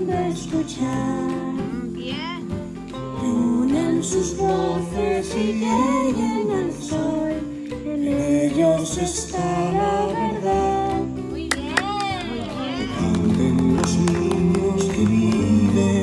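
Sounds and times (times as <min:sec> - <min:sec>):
instrumental backing music: 0:00.0 - 0:16.0.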